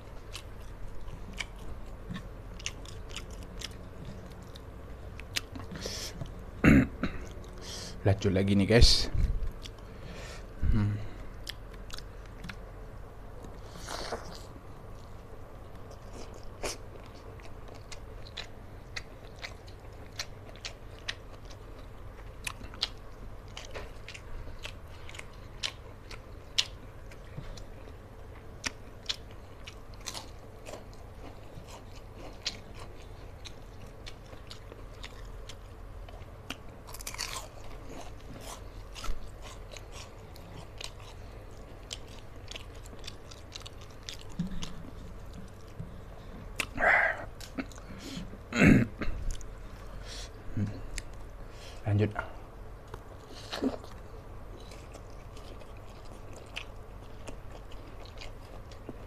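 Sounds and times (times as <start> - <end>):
person chewing crunchy food: 0.0 - 6.4, 9.5 - 12.7, 13.4 - 51.8, 52.6 - 59.0.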